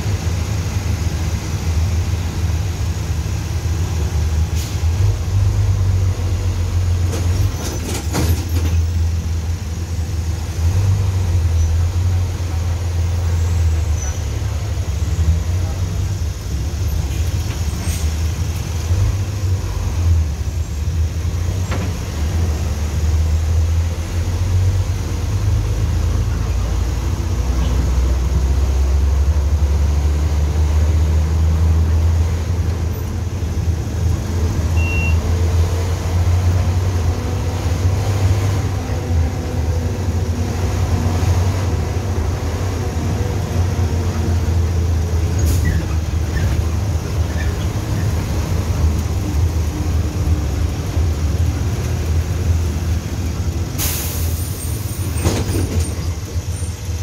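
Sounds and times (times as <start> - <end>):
bus engine rumbling: 0.0 - 57.0.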